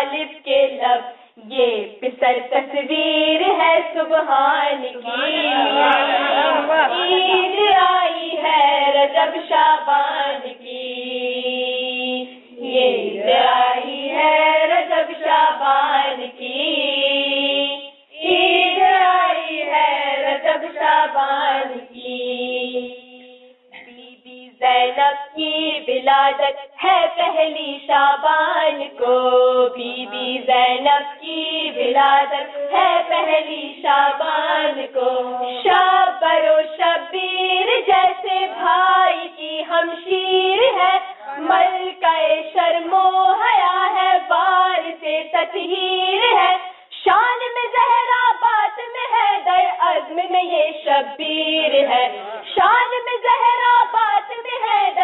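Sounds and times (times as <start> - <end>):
girls singing: 0.0 - 55.0.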